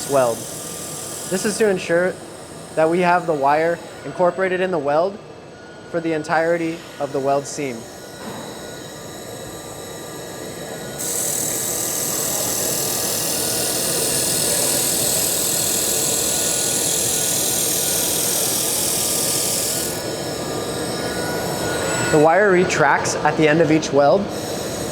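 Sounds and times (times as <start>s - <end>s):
laser welder hissing: 0.0s - 4.5s, 6.0s - 24.9s
equipment humming: 0.0s - 24.9s.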